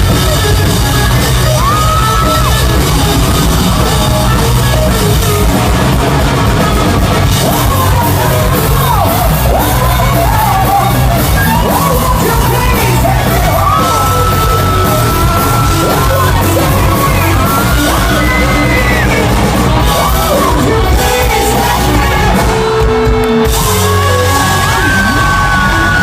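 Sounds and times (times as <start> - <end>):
distorted lead guitar solo: 0.0 - 26.0
heavy rock band: 0.0 - 26.0.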